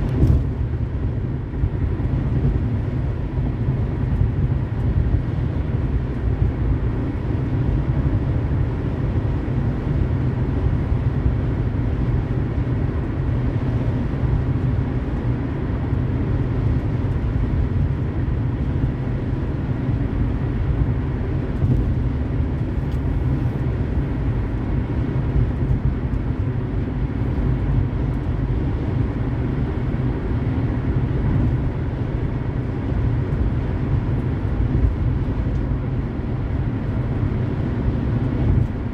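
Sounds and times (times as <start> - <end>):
car driving road noise: 0.0 - 38.9.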